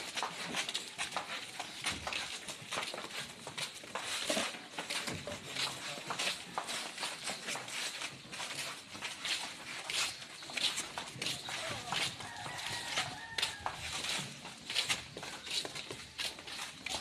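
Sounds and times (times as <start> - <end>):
shuffling footsteps: 0.0 - 17.0.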